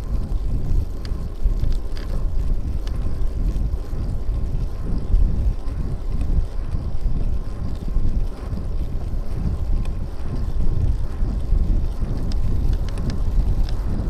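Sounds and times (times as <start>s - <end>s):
faint bike rattles: 0.0s - 14.0s
low road rumble: 0.0s - 14.0s
wind buffeting microphone: 0.0s - 14.0s.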